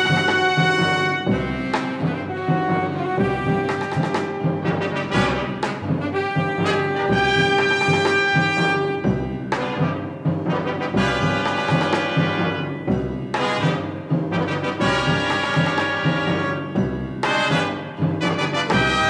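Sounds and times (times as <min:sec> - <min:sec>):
steady low beat: 0:00.0 - 0:15.6
orchestral brass music: 0:00.0 - 0:19.0.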